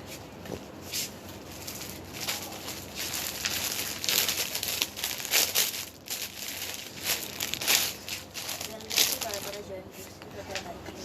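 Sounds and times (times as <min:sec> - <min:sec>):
clothing crinkling rustles: 0:00.5 - 0:10.7.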